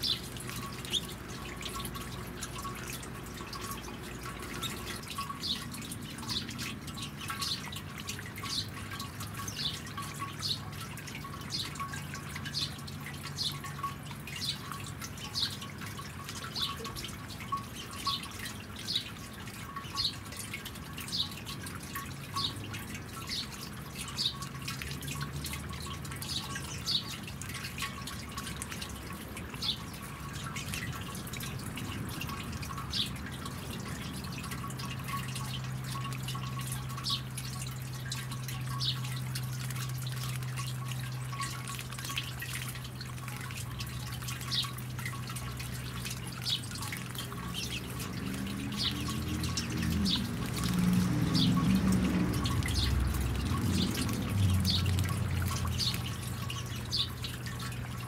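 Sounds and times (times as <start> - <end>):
low steady hum: 0.0 - 58.0
water dripping into basin: 0.0 - 58.0.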